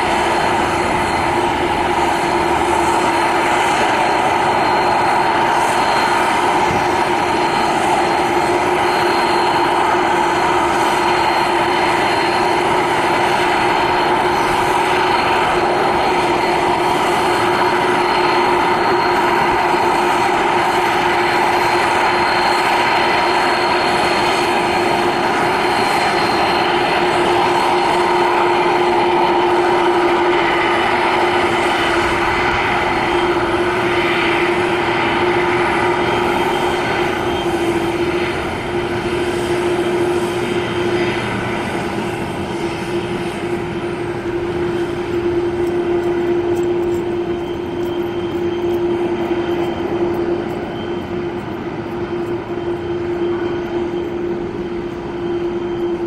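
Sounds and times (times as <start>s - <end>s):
high engine whine: 0.0s - 56.0s
jet engines running: 0.0s - 56.0s.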